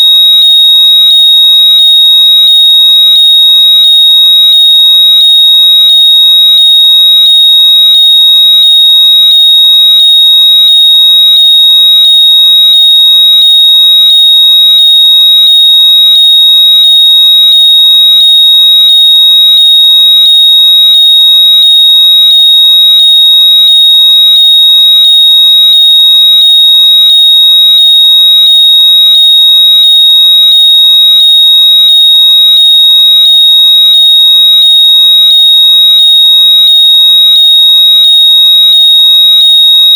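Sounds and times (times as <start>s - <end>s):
high-pitched electronic tone: 0.0s - 39.9s.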